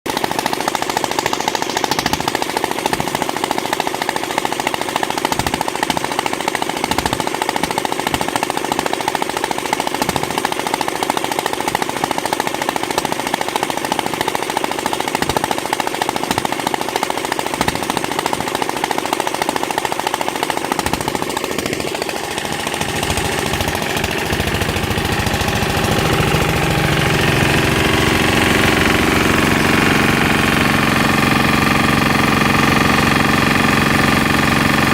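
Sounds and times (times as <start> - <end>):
diesel engine knocking: 0.0 - 34.9.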